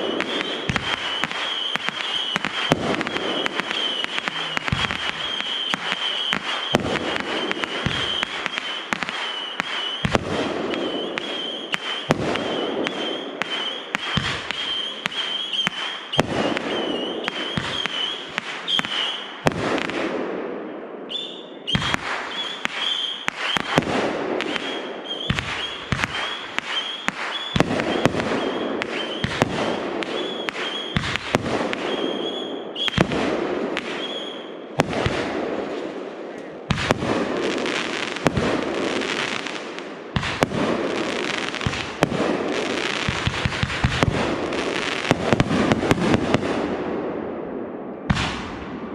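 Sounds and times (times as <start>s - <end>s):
firework bursts and bangs: 0.0s - 48.9s.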